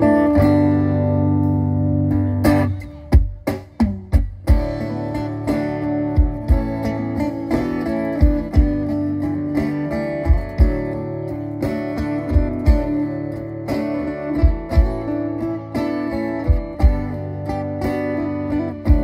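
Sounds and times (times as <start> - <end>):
acoustic guitars playing: 0.0 - 19.0.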